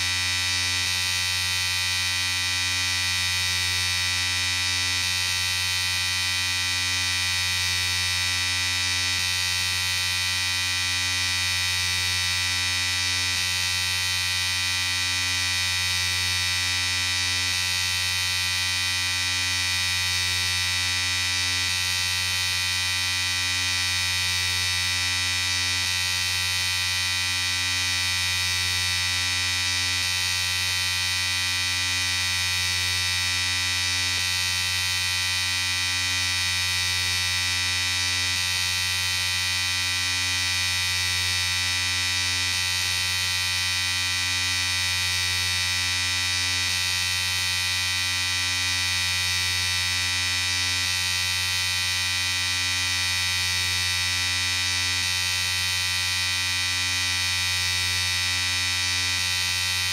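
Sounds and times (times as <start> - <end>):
electric shaver buzzing: 0.0 - 59.9.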